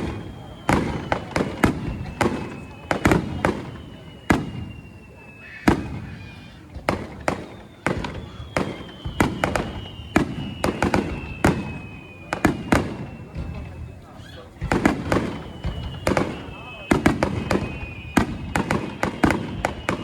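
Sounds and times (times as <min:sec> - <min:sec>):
faint high falling whistle: 0:00.0 - 0:20.0
fireworks bursting with sharp bangs: 0:00.0 - 0:20.0.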